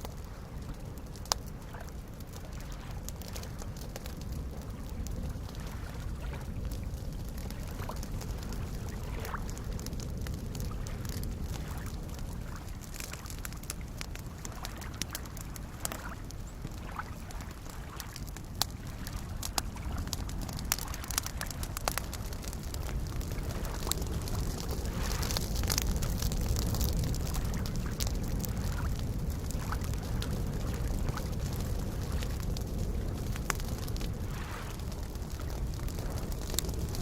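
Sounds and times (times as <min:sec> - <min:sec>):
campfire crackling and popping: 0:00.0 - 0:37.0
lake waves lapping and gurgling: 0:00.0 - 0:37.0.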